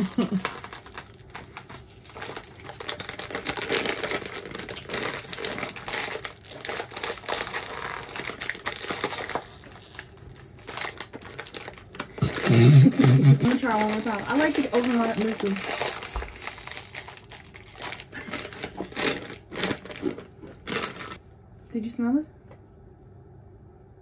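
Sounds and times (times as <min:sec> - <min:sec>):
plastic snack bag crinkling: 0:00.0 - 0:21.2.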